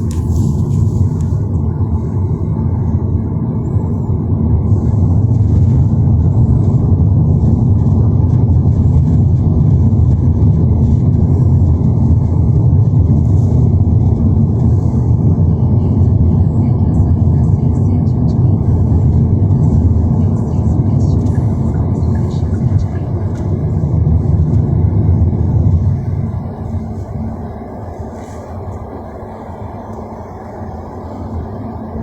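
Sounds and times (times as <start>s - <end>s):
car interior road rumble: 0.0s - 32.0s.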